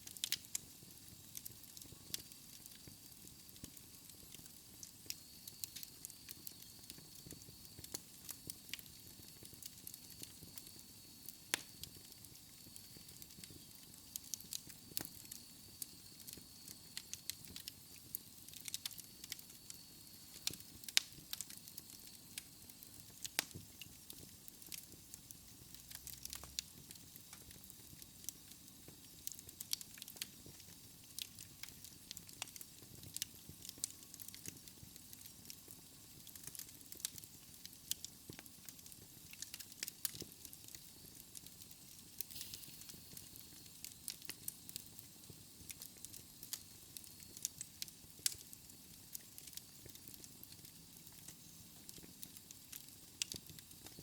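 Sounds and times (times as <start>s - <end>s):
fire crackling: 0.0s - 54.0s.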